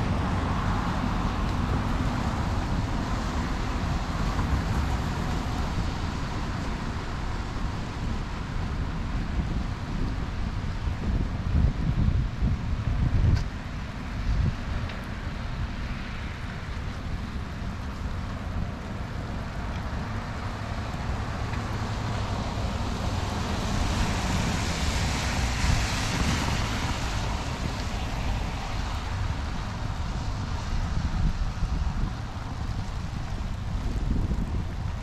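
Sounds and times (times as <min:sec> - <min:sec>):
car tyres hissing on wet road: 0:00.0 - 0:35.0
wind buffeting microphone: 0:00.0 - 0:35.0.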